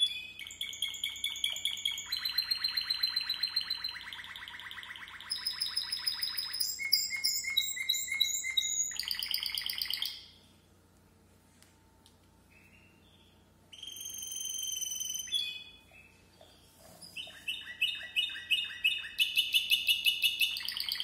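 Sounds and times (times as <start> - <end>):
canary singing trills: 0.0 - 10.4, 12.5 - 21.0.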